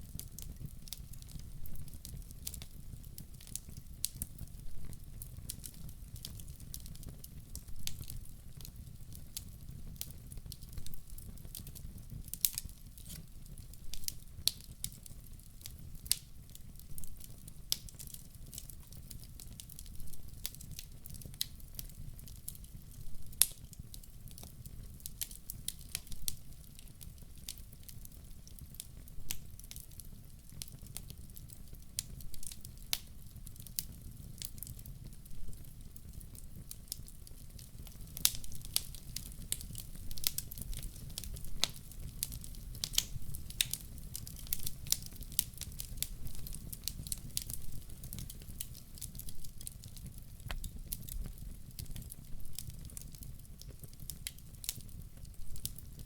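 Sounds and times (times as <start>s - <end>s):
low rumble of burning: 0.0s - 56.0s
wood fire pops and snaps: 0.0s - 56.0s.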